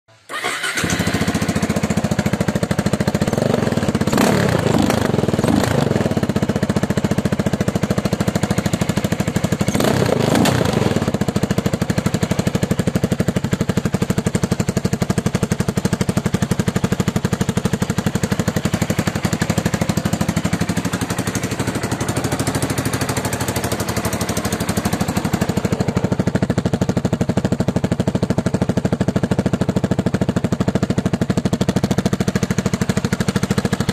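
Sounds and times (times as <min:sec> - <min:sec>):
engine running with pulsing beat: 0:01.2 - 0:33.9.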